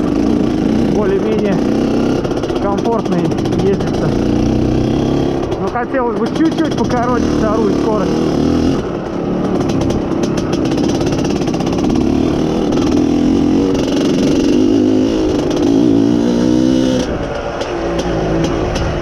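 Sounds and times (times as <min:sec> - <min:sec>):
two-stroke motorcycle engine: 0:00.0 - 0:19.0.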